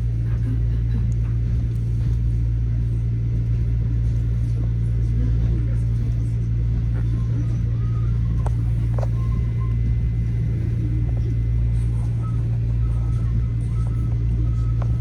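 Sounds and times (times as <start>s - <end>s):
train low rumble and hum: 0.0s - 15.0s.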